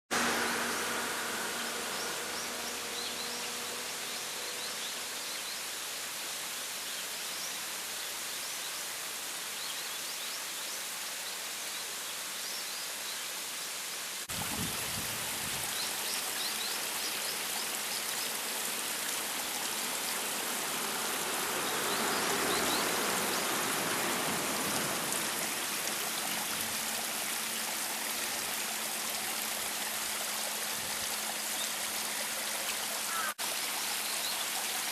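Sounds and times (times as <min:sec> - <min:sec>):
small waterfall splashing: 0:00.1 - 0:34.9.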